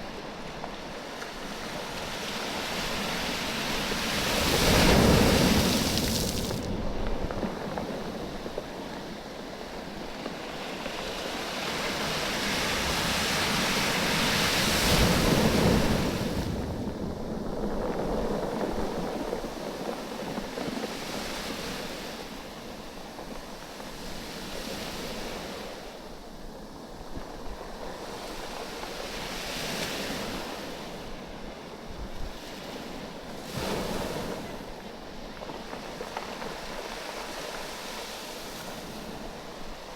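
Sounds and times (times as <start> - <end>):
waves washing on a beach: 0.0 - 39.9.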